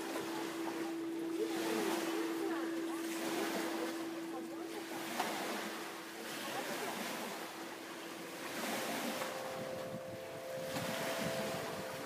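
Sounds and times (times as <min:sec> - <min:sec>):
water: 0:00.0 - 0:12.0
wind harp strings tones: 0:00.0 - 0:12.0
wind on microphone: 0:00.0 - 0:12.0.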